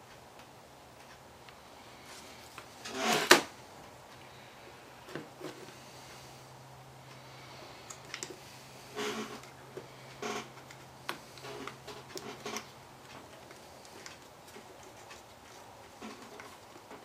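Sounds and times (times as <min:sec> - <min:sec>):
faint steady hum: 0:00.0 - 0:17.0
wires rustling: 0:00.0 - 0:17.0.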